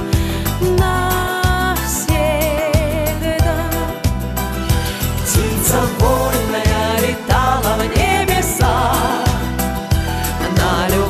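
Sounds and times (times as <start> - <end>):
instrumental pop music with beat: 0.0 - 11.0.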